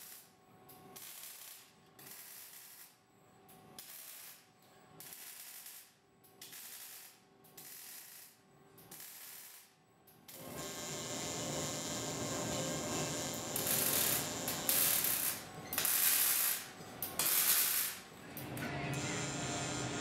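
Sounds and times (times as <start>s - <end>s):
welding arc crackling: 0.0s - 0.3s, 1.0s - 3.0s, 3.8s - 9.7s, 10.3s - 18.1s, 19.0s - 20.0s.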